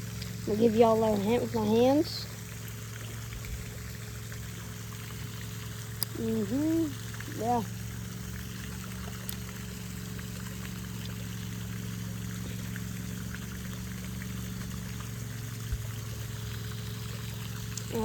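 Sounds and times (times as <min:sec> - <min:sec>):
low hum: 0:00.0 - 0:18.0
water trickling: 0:00.0 - 0:18.0.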